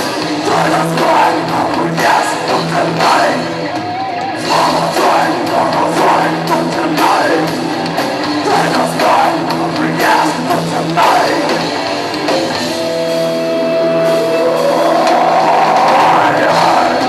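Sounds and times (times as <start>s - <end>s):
person singing lead vocals: 0.0s - 11.9s, 14.0s - 17.0s
rock band playing: 0.0s - 17.0s.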